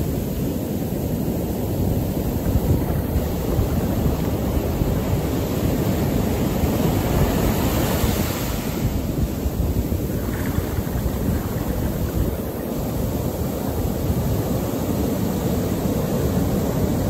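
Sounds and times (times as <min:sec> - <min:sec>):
surf washing over sand: 0:00.0 - 0:17.0
wind rumbling on microphone: 0:00.0 - 0:17.0.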